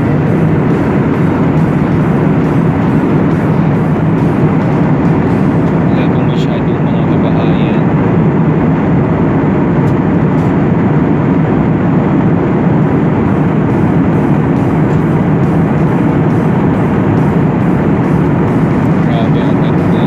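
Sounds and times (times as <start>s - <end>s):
airliner cabin engine rush: 0.0s - 20.0s.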